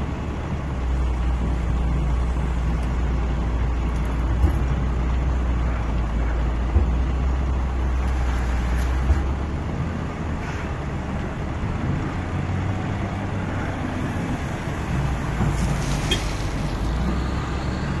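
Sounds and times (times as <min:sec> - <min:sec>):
diesel loader engine: 0:00.0 - 0:18.0.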